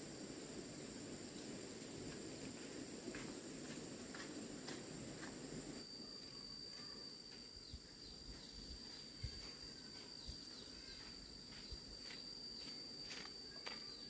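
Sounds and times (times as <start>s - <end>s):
insect trill: 0.0s - 14.0s.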